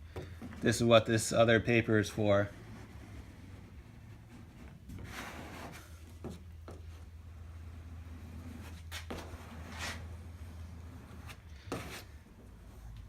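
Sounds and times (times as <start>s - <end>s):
steady low hum: 0.0s - 13.0s
squeegee rubbing over wet decal: 0.4s - 13.0s.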